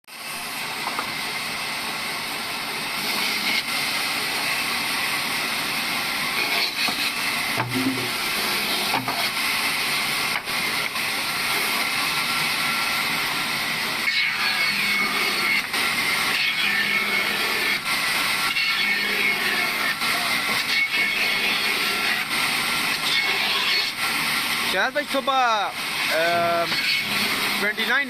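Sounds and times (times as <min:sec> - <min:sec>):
sawmill machine running: 0:00.4 - 0:28.0.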